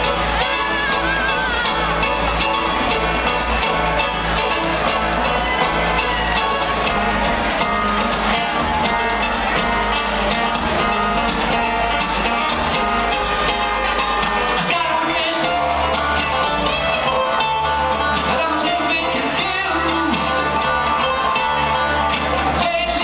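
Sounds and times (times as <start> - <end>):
bluegrass string band playing: 0.0 - 23.0.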